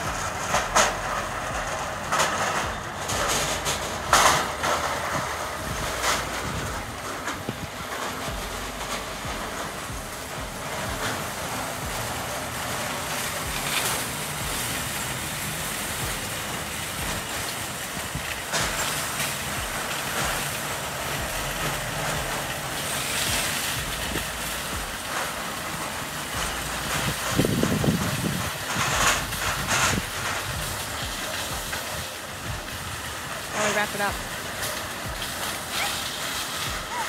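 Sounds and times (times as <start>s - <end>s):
low rumble: 0.0s - 36.9s
metal shopping carts rattling: 0.0s - 37.0s
traffic noise: 0.0s - 37.0s.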